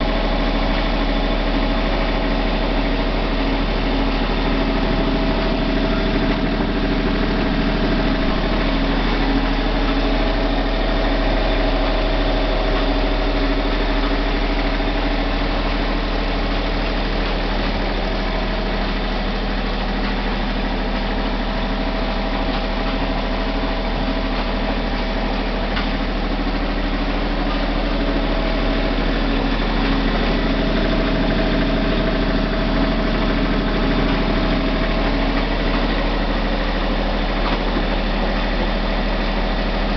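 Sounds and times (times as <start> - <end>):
diesel generator running steadily: 0.0 - 39.9.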